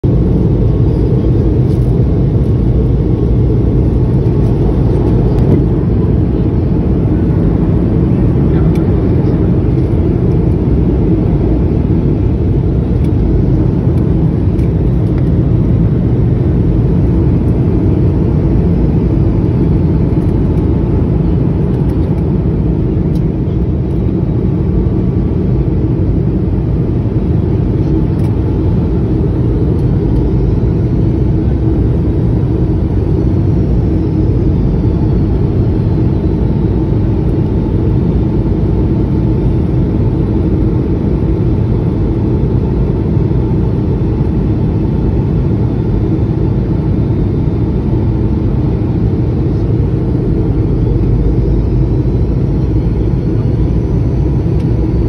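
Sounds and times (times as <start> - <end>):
airliner cabin engine roar: 0.0 - 55.0.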